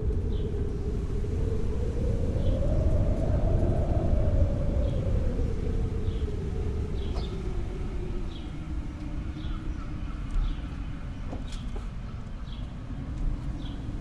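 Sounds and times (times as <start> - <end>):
low rumble of wind: 0.0 - 14.0.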